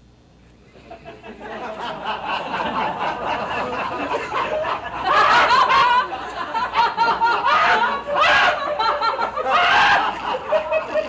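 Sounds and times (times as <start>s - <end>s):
people laughing: 0.7s - 11.0s.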